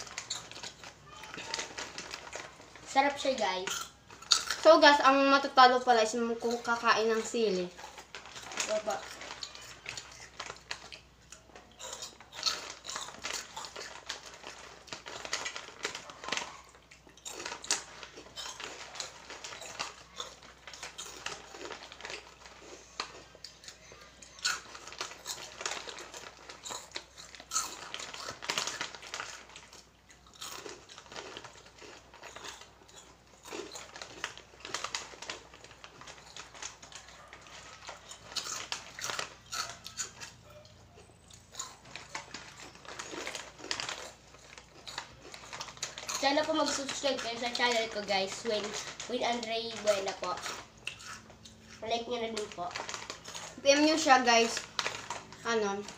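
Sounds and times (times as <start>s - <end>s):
crunchy snacks being chewed: 0.0s - 55.9s
plastic packet rustling: 0.0s - 55.9s.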